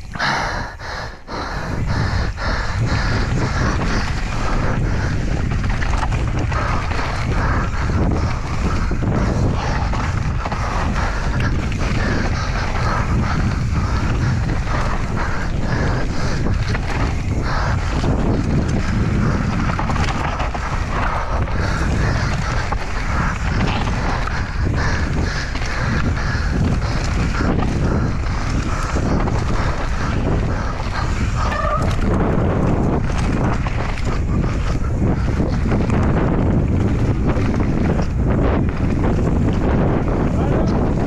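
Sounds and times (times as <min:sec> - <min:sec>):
wind buffeting microphone: 0:00.0 - 0:41.0
bike knocking and rattling: 0:01.8 - 0:41.0.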